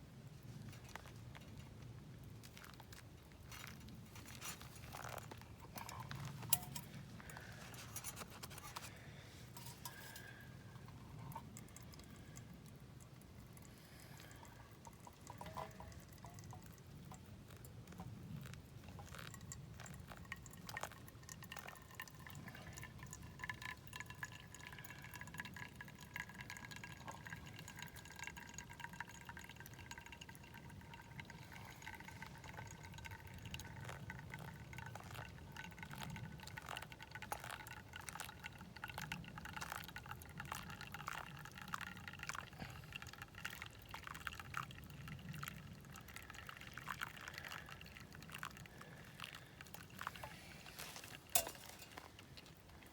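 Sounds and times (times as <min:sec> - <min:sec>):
campfire crackling: 0:00.1 - 0:52.9.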